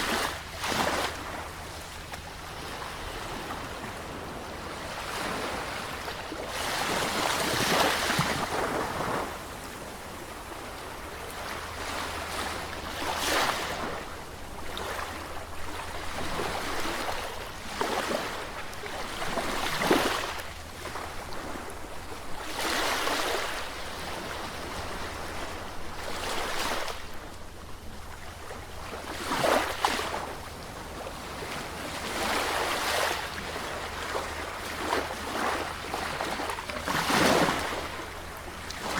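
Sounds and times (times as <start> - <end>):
sea waves breaking: 0.0 - 27.2, 28.4 - 38.9.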